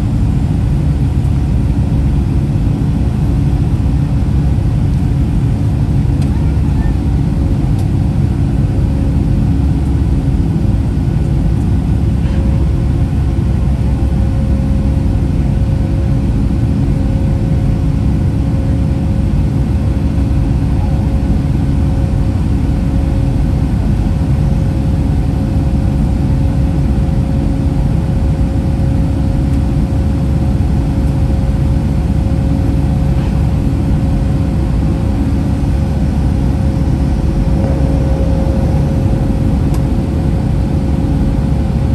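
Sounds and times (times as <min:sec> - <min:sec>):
jet engine roar in cabin: 0:00.0 - 0:41.9.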